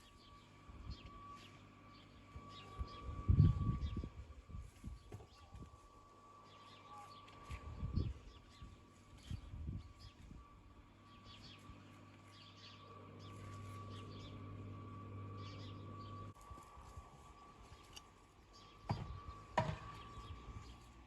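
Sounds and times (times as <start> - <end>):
small birds chirping: 0.0 - 5.6, 6.4 - 16.4, 17.3 - 21.0
steady low hum: 0.0 - 21.0.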